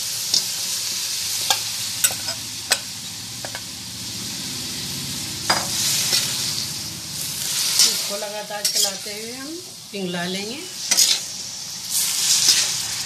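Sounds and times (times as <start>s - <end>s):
water sizzling in a pan: 0.0s - 13.0s.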